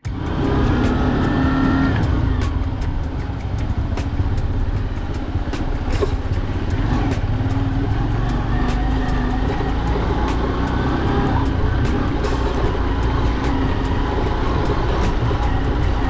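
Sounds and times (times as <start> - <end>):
faint regular clicks: 0.0 - 16.0
vehicle engine rumbling: 0.0 - 16.0.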